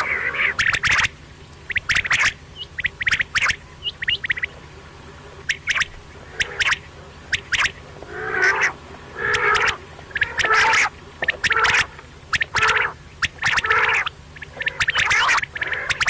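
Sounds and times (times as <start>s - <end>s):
quail calling: 0.0s - 16.0s.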